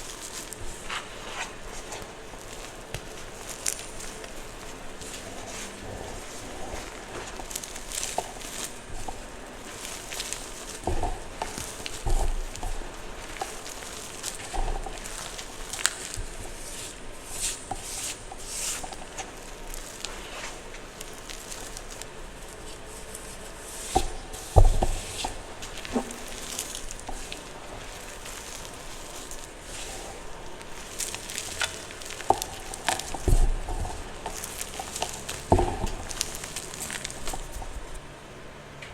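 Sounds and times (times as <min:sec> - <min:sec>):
dull thumps of chalk pieces: 0:00.0 - 0:38.1
chalk crunching crackles: 0:00.0 - 0:38.6.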